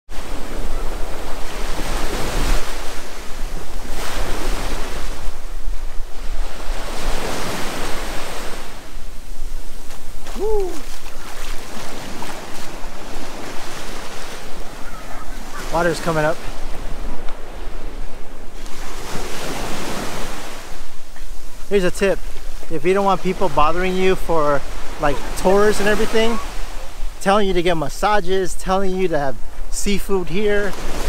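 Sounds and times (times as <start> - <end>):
wind on microphone: 0.1 - 27.6
small waves washing on beach: 0.1 - 31.0.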